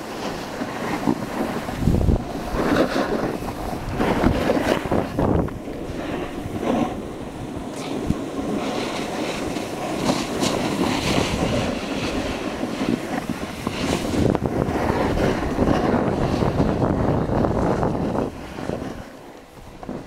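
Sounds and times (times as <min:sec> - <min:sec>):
scraping hiss on packed snow: 0:00.0 - 0:20.0
sharp edge scrapes on snow: 0:00.0 - 0:20.0
wind rumbling on microphone: 0:00.0 - 0:20.0.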